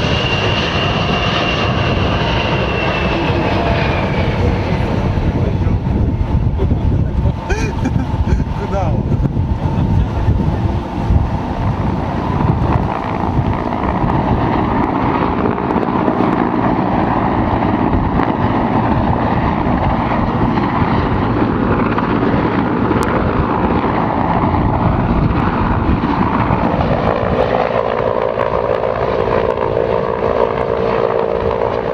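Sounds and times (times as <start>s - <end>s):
helicopter hum: 0.0s - 31.9s
steady engine drone: 0.0s - 31.9s
wind buffeting the microphone: 0.0s - 31.9s.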